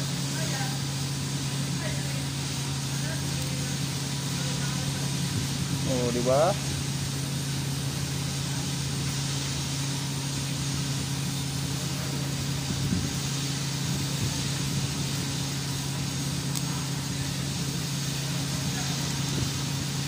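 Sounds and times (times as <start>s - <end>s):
welding hiss: 0.0s - 20.0s
welding machine buzzing: 0.0s - 20.0s.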